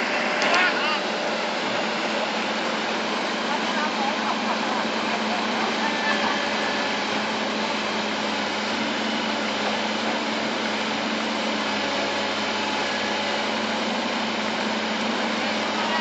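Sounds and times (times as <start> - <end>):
bulldozer diesel engine drone: 0.0 - 16.0.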